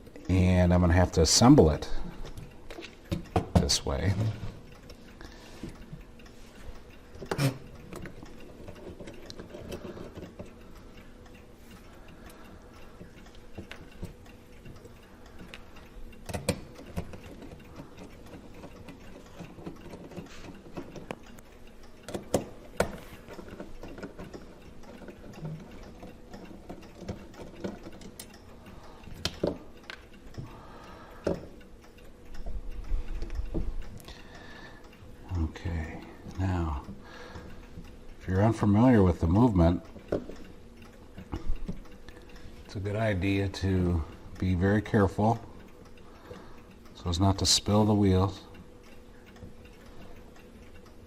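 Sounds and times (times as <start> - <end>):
small metallic clicks and taps: 1.0 - 51.0.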